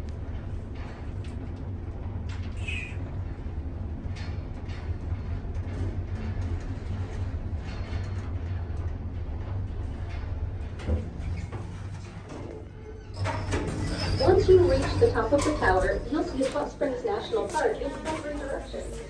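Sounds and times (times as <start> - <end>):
elevator hum and rumble: 0.0 - 19.0.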